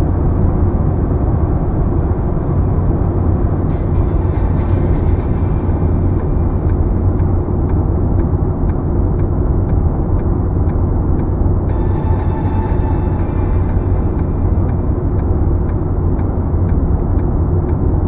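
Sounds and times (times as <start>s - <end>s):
car road noise rumble: 0.0s - 18.0s.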